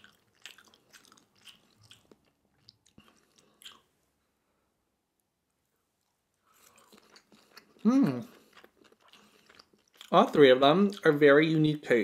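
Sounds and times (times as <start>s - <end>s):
faint chewing: 0.0s - 4.0s, 5.5s - 11.3s.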